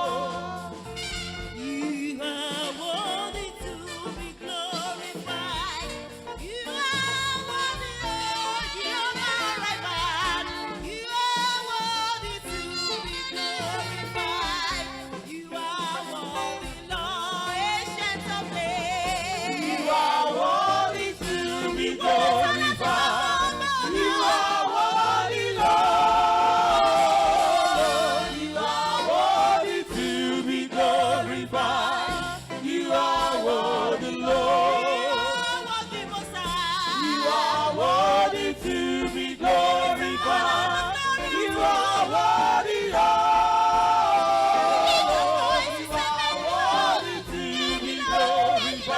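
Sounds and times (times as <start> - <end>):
gospel singing with vibrato: 0.0 - 48.9
instrumental backing: 0.0 - 48.9.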